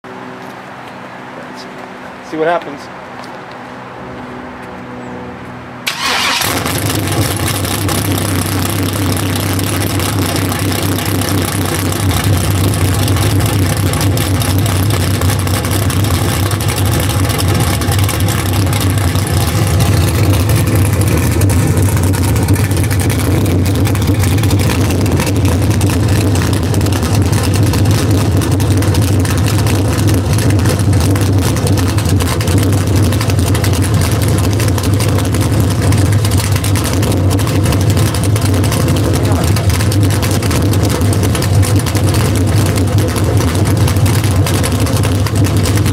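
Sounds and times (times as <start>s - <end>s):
car engine starting and idling: 5.8s - 45.9s.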